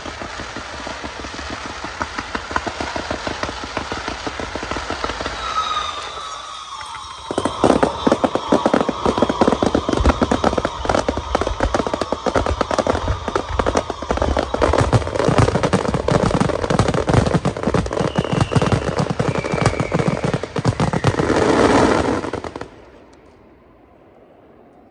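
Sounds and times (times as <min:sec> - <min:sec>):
firework cracks and bangs: 0:00.0 - 0:23.0
firework whistles: 0:00.0 - 0:23.1.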